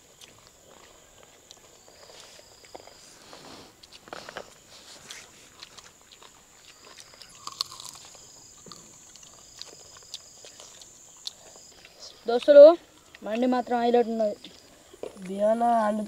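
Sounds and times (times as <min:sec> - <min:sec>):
people chewing crunchy food: 0:00.0 - 0:16.0
steady high hum: 0:00.0 - 0:16.0.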